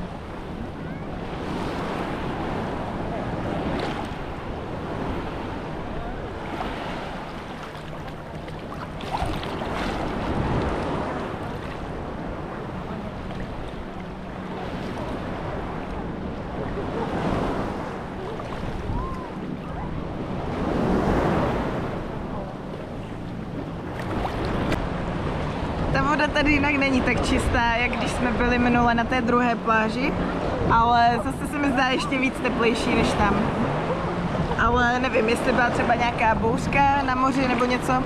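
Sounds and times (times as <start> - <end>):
sea waves washing onto beach: 0.0 - 38.0
wind on microphone: 0.0 - 38.0.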